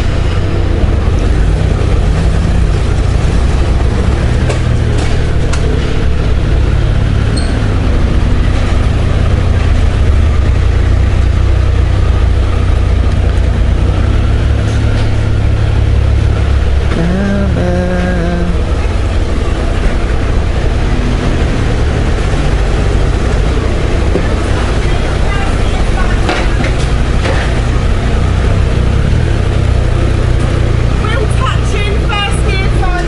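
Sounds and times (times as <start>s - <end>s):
motorcycle engine rumbling: 0.0s - 33.0s.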